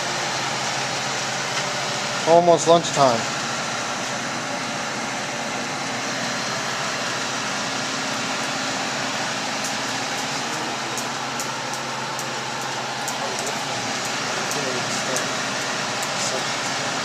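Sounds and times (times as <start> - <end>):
refrigeration unit humming: 0.0 - 17.0.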